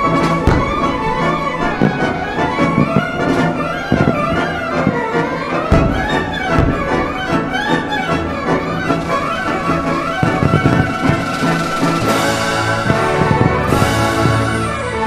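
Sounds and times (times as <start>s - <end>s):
fireworks booming: 0.0s - 15.0s
orchestral music: 0.0s - 15.0s.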